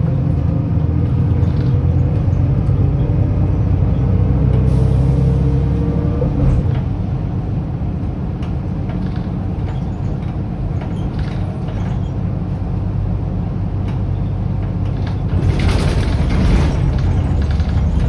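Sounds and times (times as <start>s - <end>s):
diesel bus engine rumbling: 0.0s - 18.0s.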